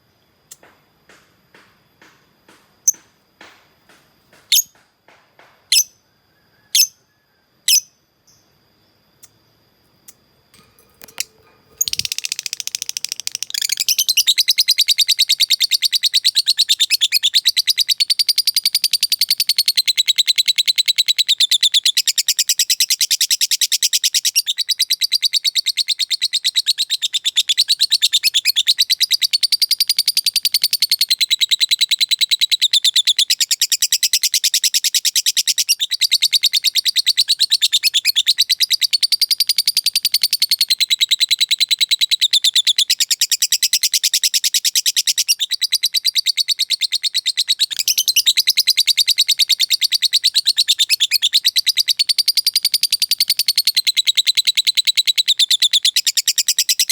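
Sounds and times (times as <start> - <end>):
bird chirping: 0.3 - 6.0, 6.6 - 56.9.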